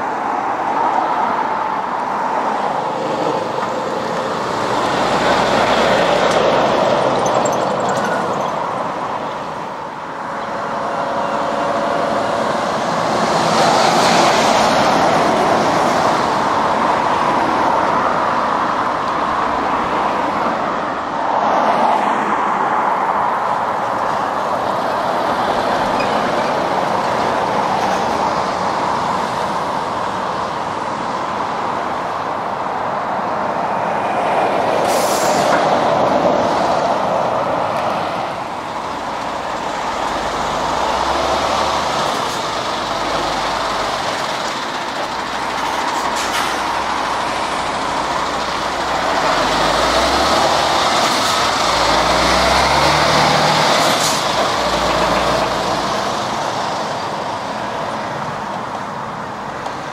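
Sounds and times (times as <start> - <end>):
road traffic with lorries passing: 0.0 - 59.9.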